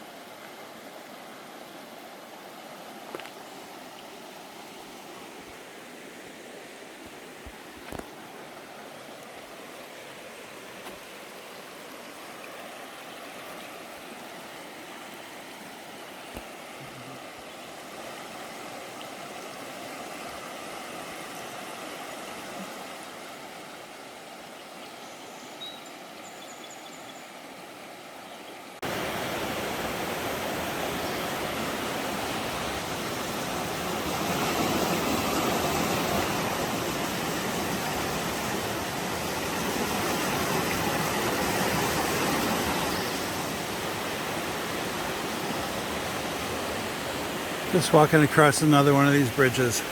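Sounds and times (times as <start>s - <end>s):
creek rushing over rocks: 0.0s - 24.7s, 28.8s - 49.9s.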